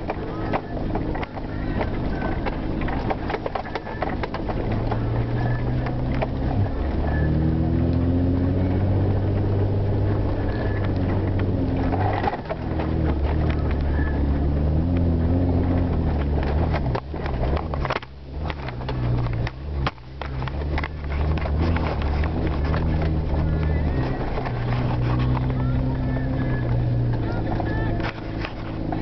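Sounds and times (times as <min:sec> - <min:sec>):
vehicle engine under load: 0:00.0 - 0:29.0
vehicle knocks and rattles: 0:00.0 - 0:29.0.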